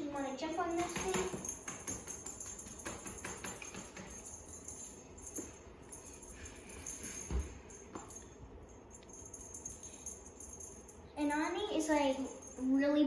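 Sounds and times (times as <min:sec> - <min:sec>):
small bells jingling: 0:00.0 - 0:13.0.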